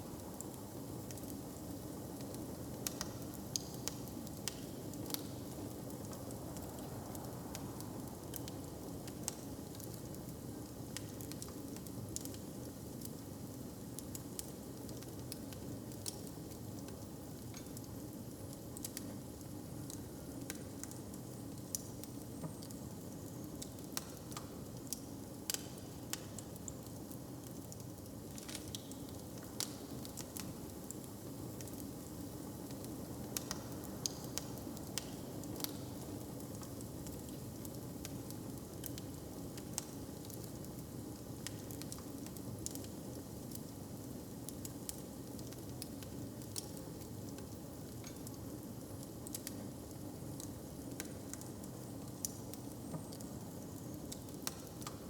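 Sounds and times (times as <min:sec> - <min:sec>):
log fire crackling: 0:00.1 - 0:55.0.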